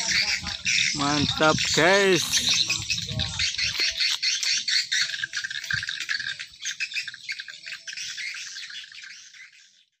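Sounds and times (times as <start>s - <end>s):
chorus of birds chirping: 0.0s - 10.0s.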